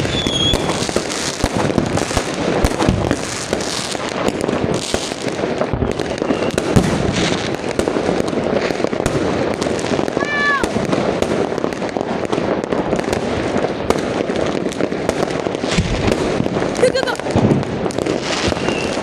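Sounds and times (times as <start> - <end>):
fireworks booms: 0.0 - 19.0
fireworks crackling and popping: 0.0 - 19.0.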